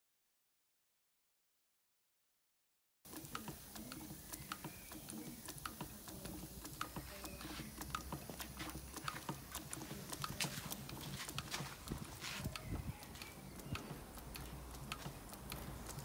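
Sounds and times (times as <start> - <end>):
model locomotive wheels clicking: 3.1 - 16.0.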